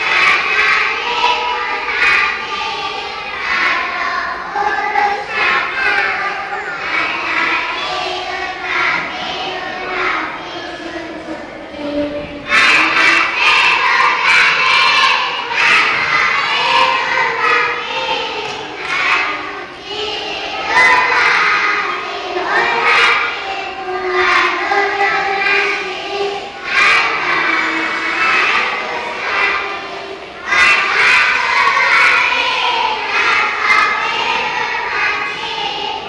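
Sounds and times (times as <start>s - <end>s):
children singing loudly in unison: 0.0s - 36.0s.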